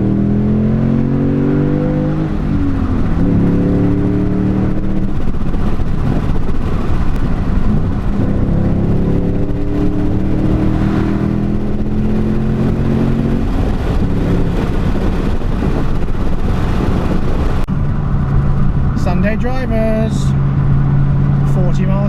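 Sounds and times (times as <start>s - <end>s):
car engine cruising: 0.0s - 22.0s
road noise: 0.0s - 22.0s.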